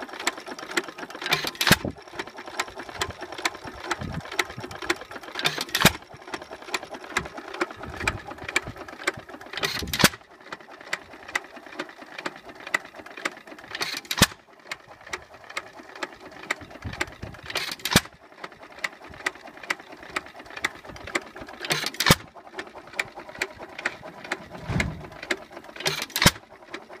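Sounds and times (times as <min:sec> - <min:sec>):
engine mechanism clicking: 0:00.0 - 0:27.0.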